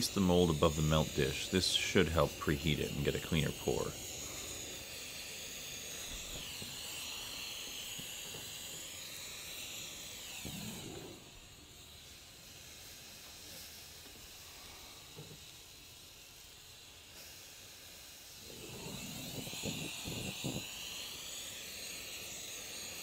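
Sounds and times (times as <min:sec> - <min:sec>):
gas torch flame hissing: 0:00.0 - 0:23.0.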